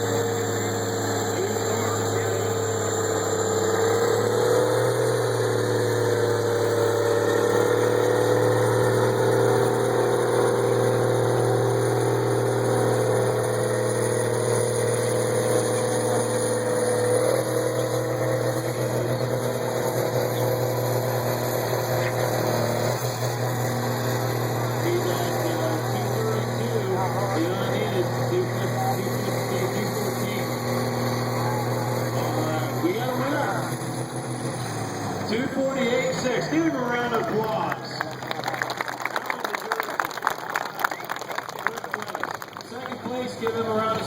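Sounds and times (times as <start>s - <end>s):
tractor engine running under load: 0.0s - 44.0s.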